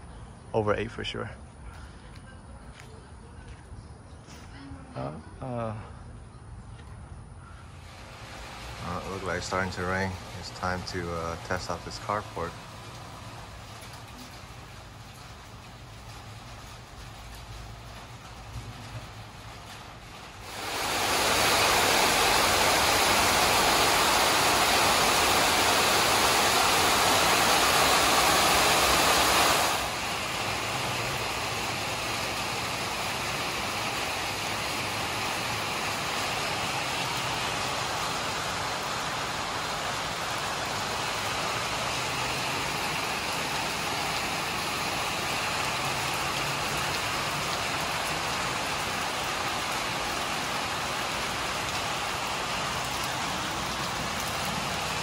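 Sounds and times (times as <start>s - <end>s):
rain on a metal roof: 7.5s - 55.0s.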